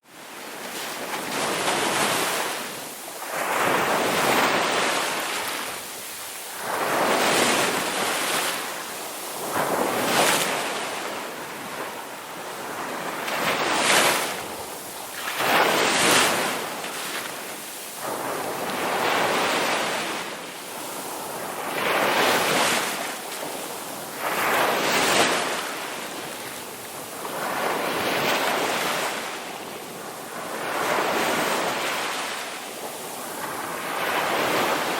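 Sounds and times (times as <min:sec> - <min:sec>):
sea waves breaking on a beach: 0:00.0 - 0:34.9.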